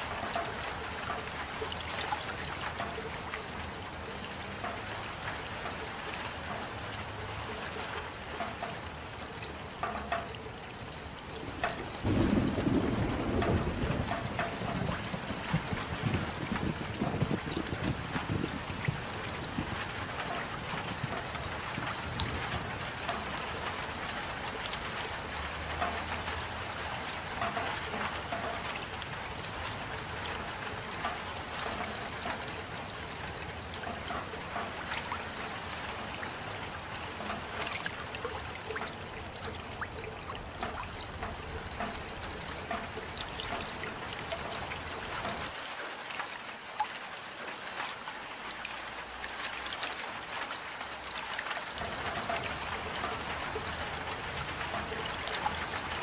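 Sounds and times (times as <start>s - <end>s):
rain falling: 0.0s - 56.0s
water trickling: 0.0s - 56.0s.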